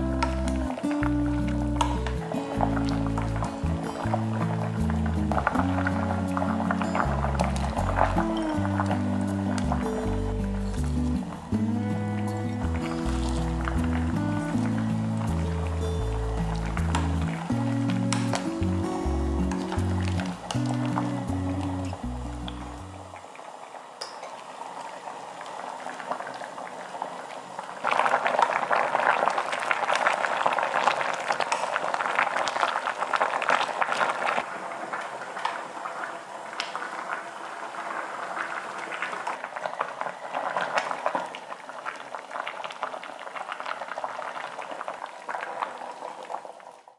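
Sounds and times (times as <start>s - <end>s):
stew boiling and bubbling: 0.0s - 46.9s.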